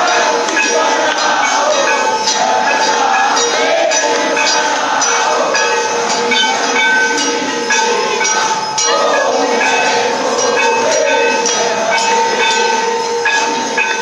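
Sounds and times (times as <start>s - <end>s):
bells and cymbals clanging: 0.0s - 14.0s
steady ringing drone: 0.0s - 14.0s.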